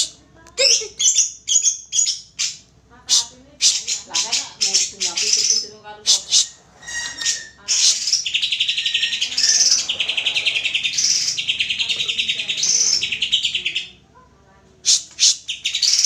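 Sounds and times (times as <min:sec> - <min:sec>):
bird singing buzzy trills: 0:00.0 - 0:14.0, 0:14.9 - 0:16.0.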